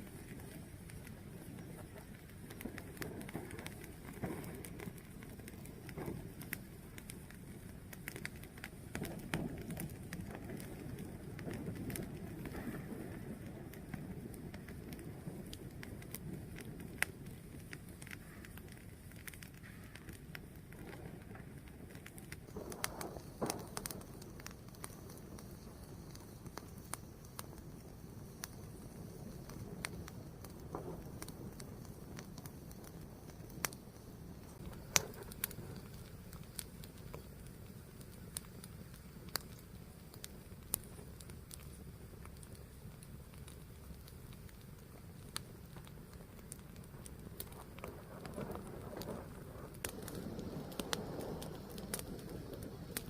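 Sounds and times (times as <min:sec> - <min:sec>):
fire burning and crackling: 0:00.0 - 0:53.0.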